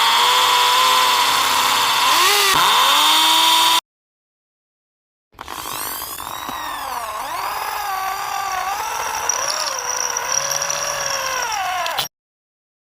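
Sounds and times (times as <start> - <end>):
power drill motor whining: 0.0 - 3.8, 5.4 - 12.1.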